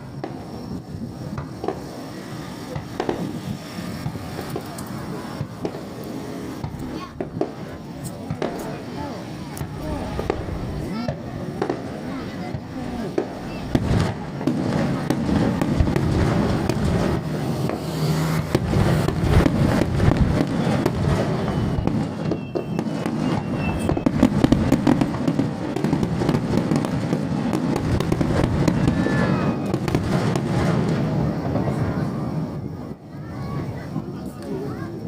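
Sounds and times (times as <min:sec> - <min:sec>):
faint firework whistles: 0:00.0 - 0:35.0
fireworks crackling and popping: 0:00.0 - 0:35.0.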